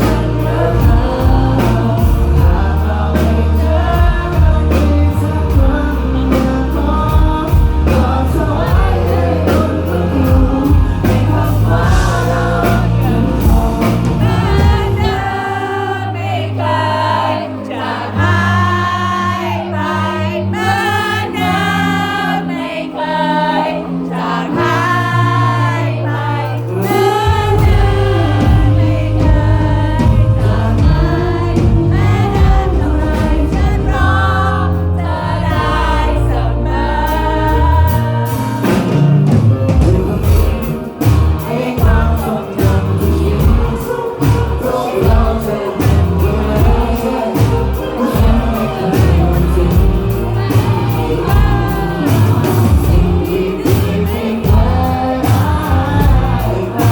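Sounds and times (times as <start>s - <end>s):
steady drum beat: 0.0s - 16.4s, 24.6s - 56.9s
live band playing: 0.0s - 56.9s
voices singing together: 0.0s - 56.9s.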